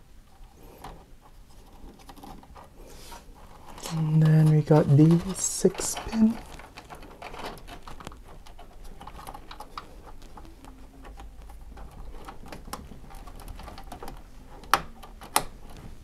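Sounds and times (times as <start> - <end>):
plastic cable clicks and rattles: 0.3 - 2.8, 3.4 - 16.0.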